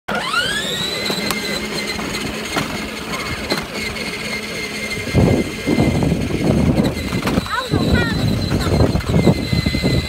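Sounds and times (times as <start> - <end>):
electric motor whining: 0.1 - 10.0
low rumbling: 0.6 - 10.0.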